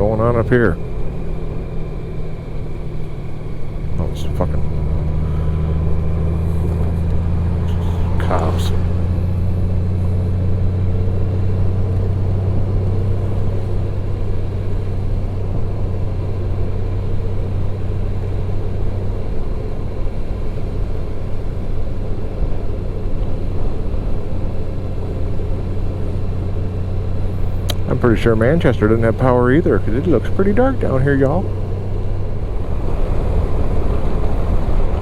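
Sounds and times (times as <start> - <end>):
motorcycle engine drone: 0.0 - 35.0.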